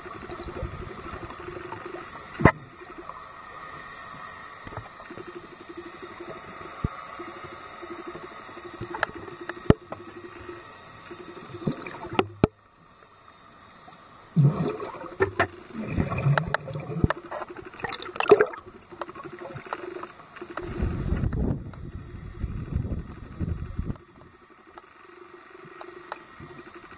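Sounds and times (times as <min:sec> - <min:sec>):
underwater bubbles gurgling: 0:00.0 - 0:26.9.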